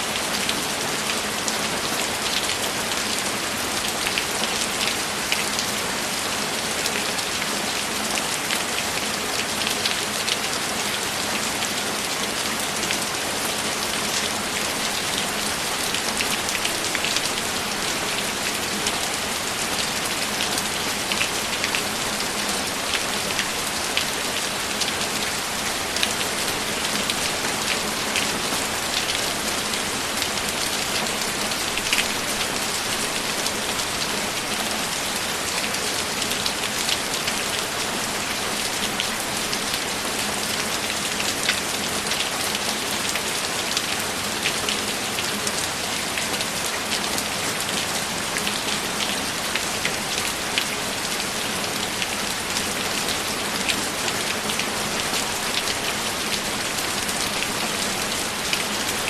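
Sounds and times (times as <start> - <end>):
steady rain with drop ticks: 0.0 - 59.0.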